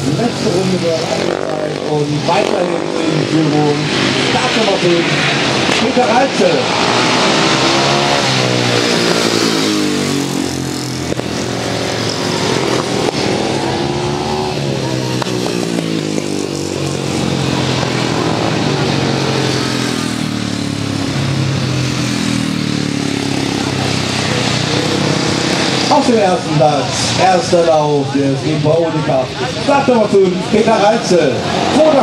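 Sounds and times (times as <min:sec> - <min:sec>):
motorcycle engines racing: 0:00.0 - 0:32.0.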